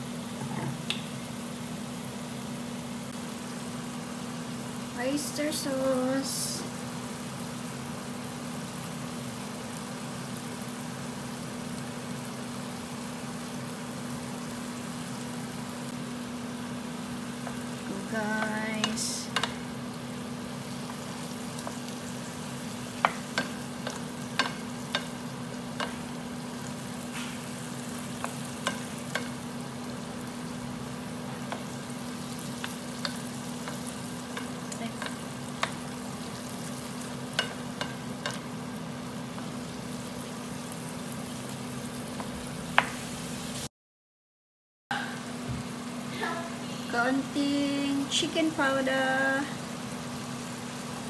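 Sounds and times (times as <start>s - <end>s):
food sizzling in a frying pan: 0.0s - 43.7s, 45.0s - 51.0s.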